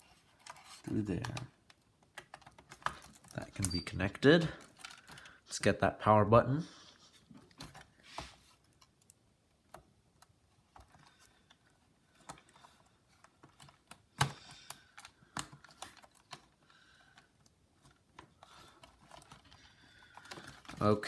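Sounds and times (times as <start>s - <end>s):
plastic parts clicking and tapping: 0.0s - 5.4s, 7.3s - 21.0s.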